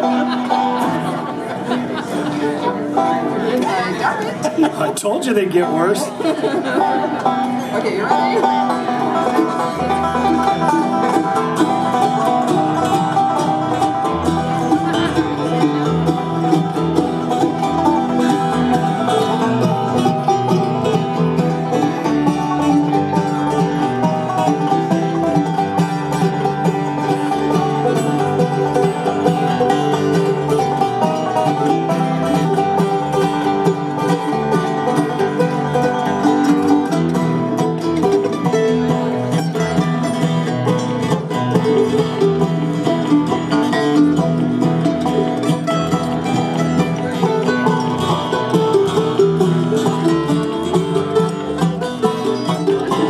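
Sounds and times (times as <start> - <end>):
acoustic guitar: 0.0 - 53.0
banjo rolls: 0.0 - 53.0
bluegrass band playing: 0.0 - 53.0.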